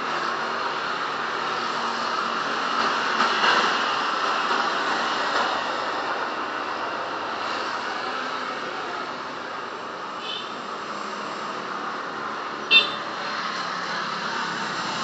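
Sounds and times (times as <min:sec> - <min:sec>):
motor scooters passing: 0:00.0 - 0:15.0.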